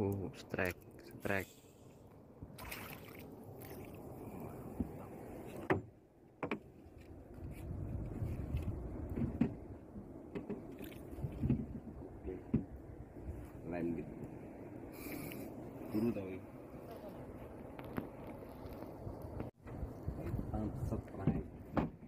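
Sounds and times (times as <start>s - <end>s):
water around boat: 0.0s - 22.0s.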